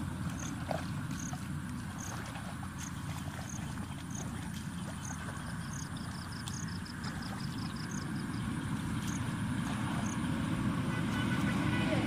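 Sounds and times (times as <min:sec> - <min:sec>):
hands sloshing through muddy water: 0:00.0 - 0:12.0.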